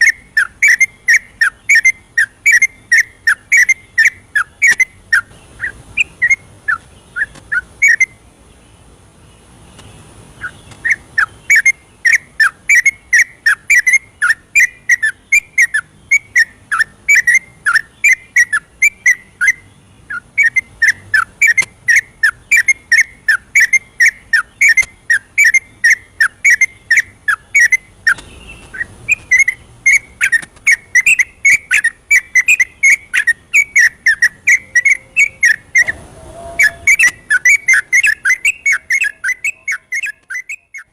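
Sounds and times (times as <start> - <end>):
bulbul singing chattering notes: 0.0 - 8.2, 10.4 - 40.9.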